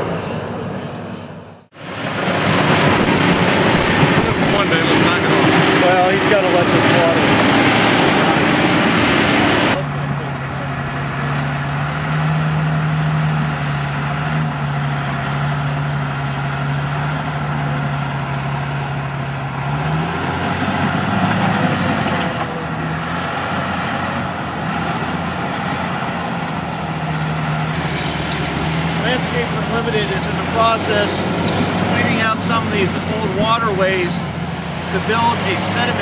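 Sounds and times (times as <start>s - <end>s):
diesel engine of heavy machinery: 0.0s - 36.0s.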